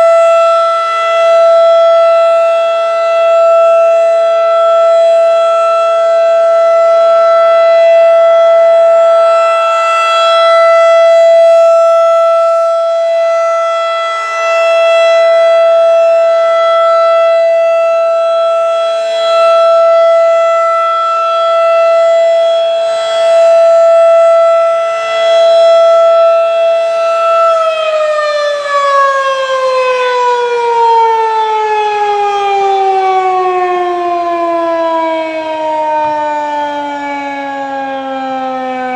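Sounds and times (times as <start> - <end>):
rotating siren alert tone: 0.0 - 38.9.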